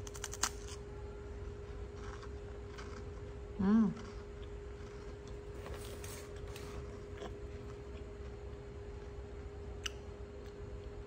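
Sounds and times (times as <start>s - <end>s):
crunchy chewing: 0.0s - 11.0s
steady low hum: 0.0s - 11.0s.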